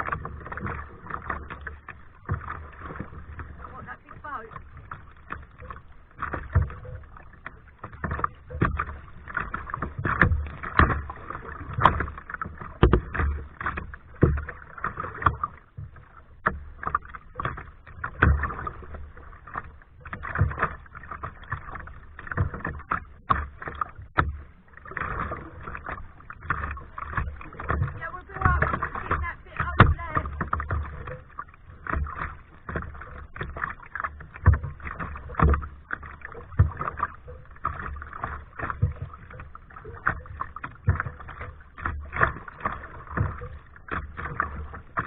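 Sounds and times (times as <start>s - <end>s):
paddle splashing in water: 0.0s - 45.0s.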